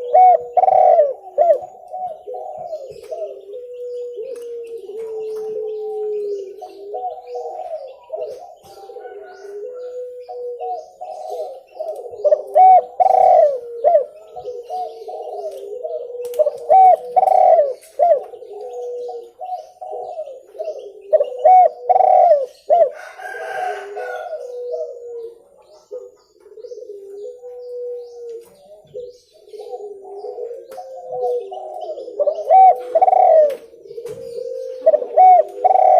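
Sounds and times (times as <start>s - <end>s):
doves cooing: 0.0s - 35.9s.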